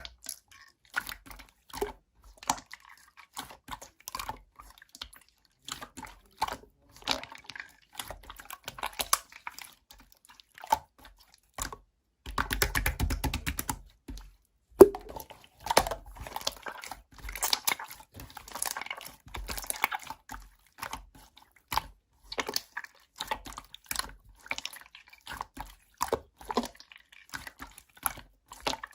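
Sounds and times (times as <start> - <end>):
wet squishing: 0.0 - 28.9.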